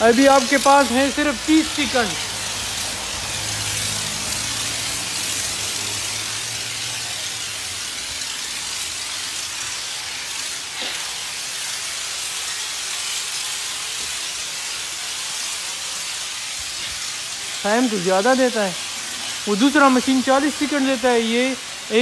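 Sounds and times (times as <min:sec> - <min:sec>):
pressure washer spraying: 0:00.0 - 0:22.0.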